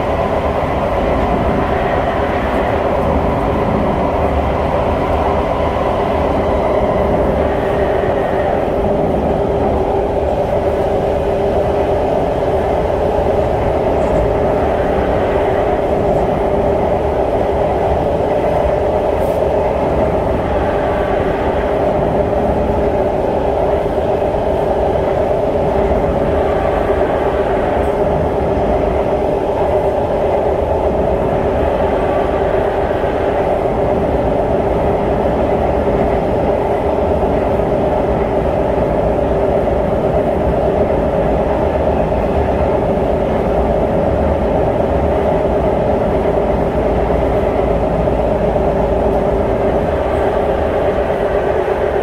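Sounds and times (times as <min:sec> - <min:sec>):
steady hum: 0:00.0 - 0:52.0
train wheels rumbling on rails: 0:00.0 - 0:52.0.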